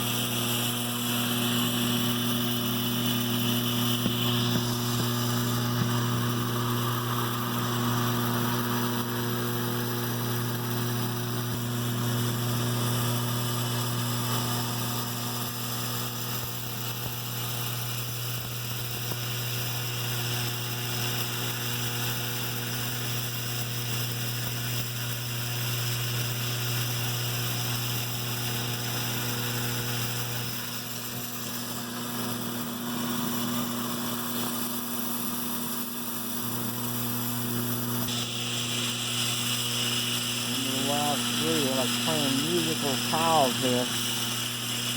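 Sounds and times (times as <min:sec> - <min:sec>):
vibrator mechanism buzzing: 0:00.0 - 0:44.9.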